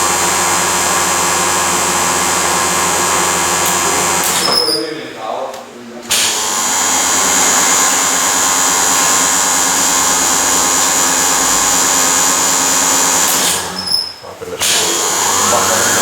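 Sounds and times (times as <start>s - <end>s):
lathe humming with high whine: 0.0s - 4.8s, 6.0s - 16.0s.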